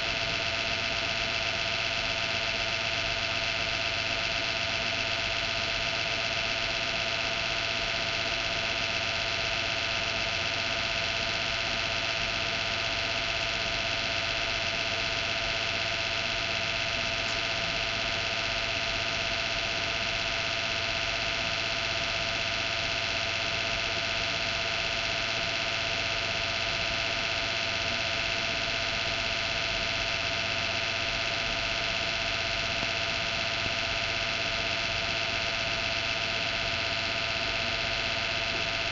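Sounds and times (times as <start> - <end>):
computer hum: 0.0 - 38.9
computer whine: 0.0 - 38.9.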